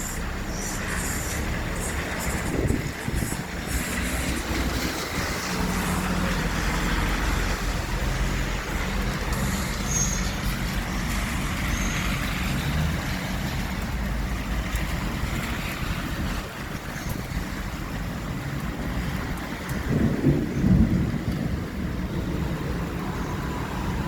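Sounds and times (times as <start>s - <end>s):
rain and wind rushing: 0.0s - 24.0s
low thunder rumble: 0.3s - 24.0s.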